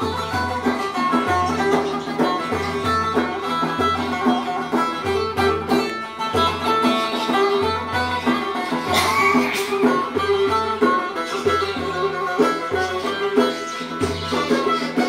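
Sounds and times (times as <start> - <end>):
plucked long-necked lute melody: 0.0 - 15.0.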